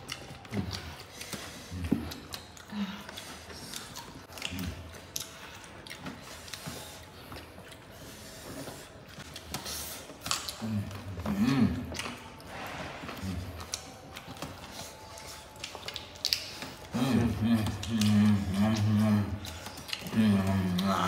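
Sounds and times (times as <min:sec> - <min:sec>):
chewing and lip-smacking: 0:00.0 - 0:21.0.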